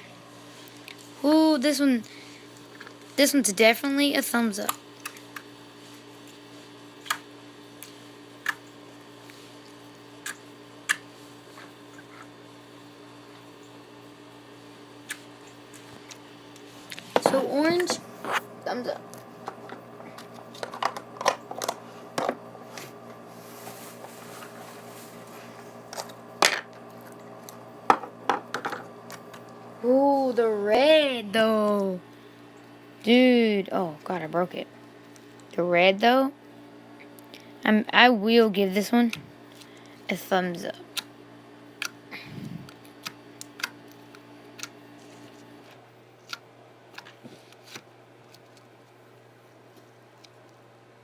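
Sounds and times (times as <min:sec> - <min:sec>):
faint room hum: 0:00.0 - 0:51.0.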